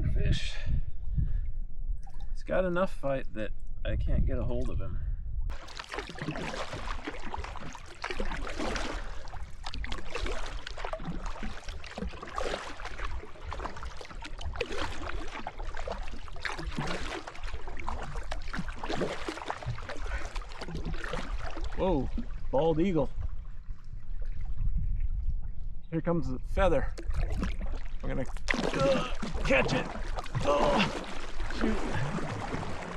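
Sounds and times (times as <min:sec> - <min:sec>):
water splashing and sloshing: 0:01.9 - 0:02.4, 0:05.5 - 0:25.9, 0:26.6 - 0:32.9.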